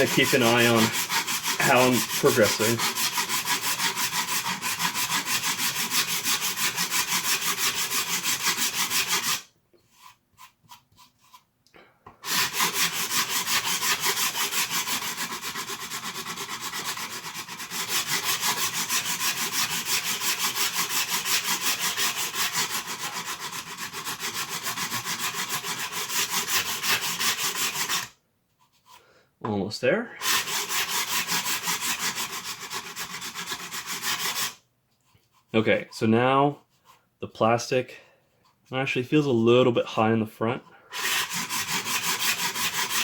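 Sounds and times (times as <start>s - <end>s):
sanding strokes on hard plastic: 0.0s - 11.5s, 12.2s - 29.0s, 30.2s - 37.5s, 40.8s - 43.0s.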